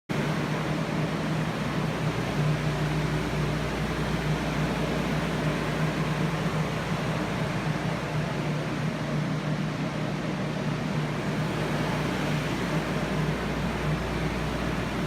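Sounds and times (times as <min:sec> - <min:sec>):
air movers blowing: 0:00.2 - 0:15.0
low hum: 0:00.2 - 0:15.0.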